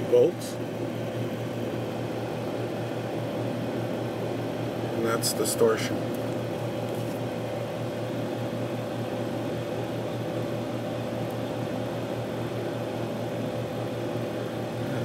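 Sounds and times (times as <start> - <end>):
fan noise: 0.0 - 15.0
low electrical hum: 0.0 - 15.0.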